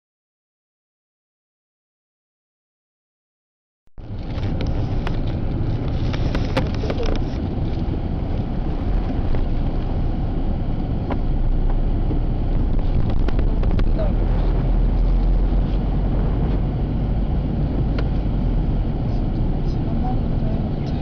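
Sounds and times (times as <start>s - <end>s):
car engine and tyre rumble: 4.0s - 21.0s.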